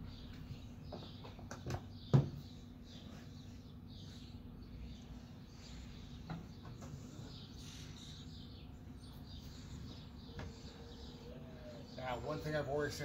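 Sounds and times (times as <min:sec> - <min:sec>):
birds chirping faintly: 0:00.0 - 0:13.0
low outdoor background noise: 0:00.0 - 0:13.0.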